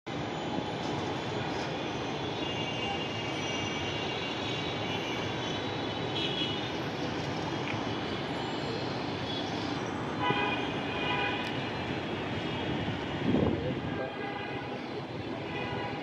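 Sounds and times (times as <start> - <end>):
distant city traffic: 0.1 - 16.0.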